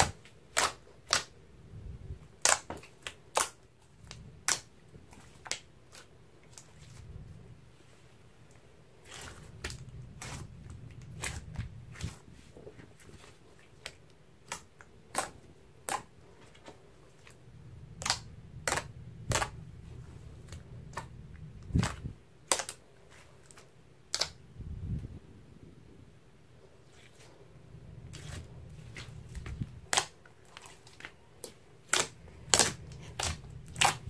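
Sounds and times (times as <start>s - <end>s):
slime squishing: 0.0s - 1.3s, 2.1s - 7.4s, 8.4s - 24.4s, 26.8s - 34.0s.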